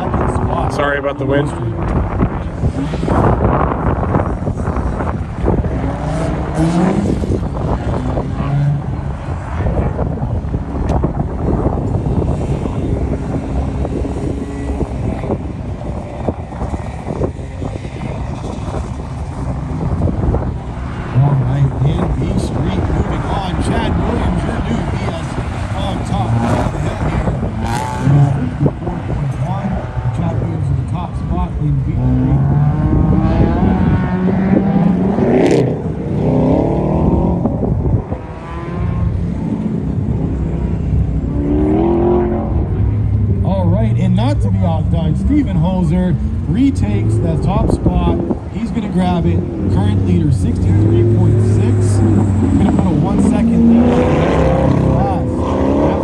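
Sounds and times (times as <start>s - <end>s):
race car engine: 0.0s - 56.0s
wind buffeting microphone: 0.0s - 56.0s.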